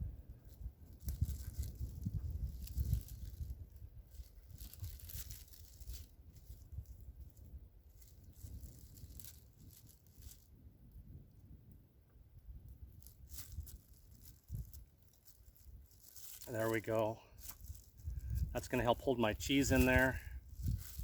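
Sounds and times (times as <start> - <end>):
small crackles: 0.3 - 21.0
dough tearing and rustling: 0.4 - 10.6, 12.6 - 21.0.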